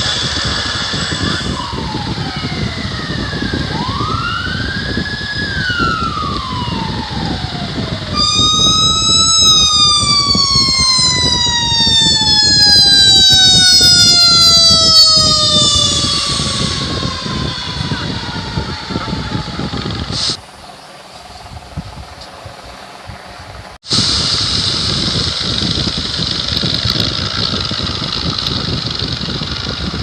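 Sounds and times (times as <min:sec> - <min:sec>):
emergency vehicle sirens: 0:00.0 - 0:30.0
low rumble: 0:00.0 - 0:30.0.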